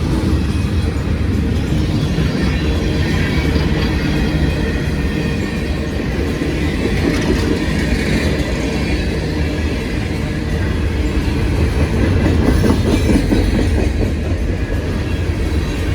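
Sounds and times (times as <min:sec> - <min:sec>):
freight train rolling by: 0:00.0 - 0:15.9.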